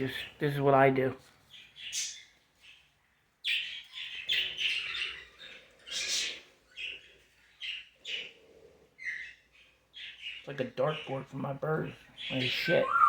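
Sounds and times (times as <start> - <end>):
parrots chirping: 1.5 - 13.0.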